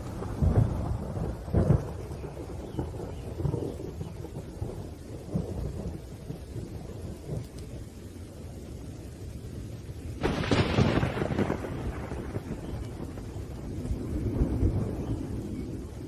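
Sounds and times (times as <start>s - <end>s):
sharp thunderclap: 0.0s - 7.5s, 10.2s - 16.0s
low rolling thunder: 0.0s - 16.0s
steady rain: 0.0s - 16.0s.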